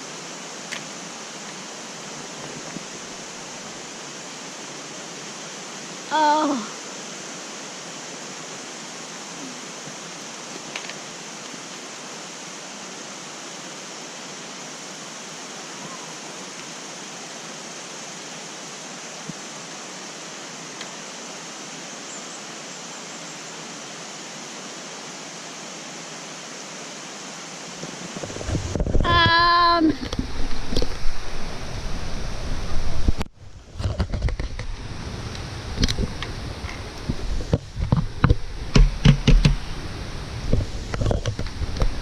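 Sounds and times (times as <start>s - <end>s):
stream rushing: 0.0s - 42.0s.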